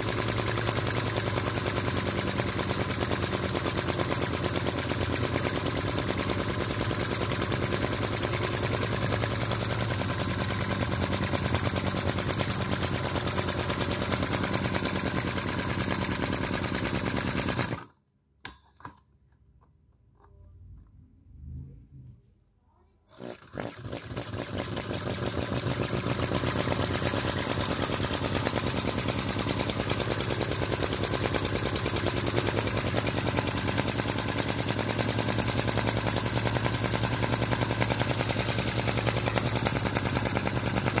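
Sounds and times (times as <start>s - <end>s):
model engine rapid popping: 0.0s - 18.6s, 23.1s - 41.0s.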